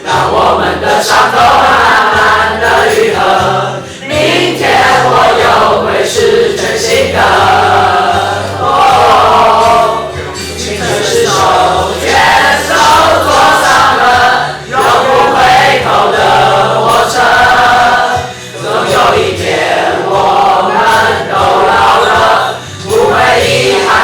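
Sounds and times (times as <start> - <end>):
group of voices singing: 0.0 - 24.0
pop backing track: 0.0 - 24.0.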